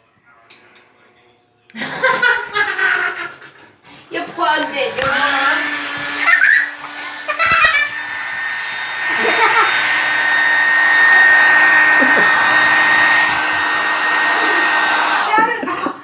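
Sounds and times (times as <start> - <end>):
hair dryer running: 1.8 - 3.1, 4.0 - 16.0.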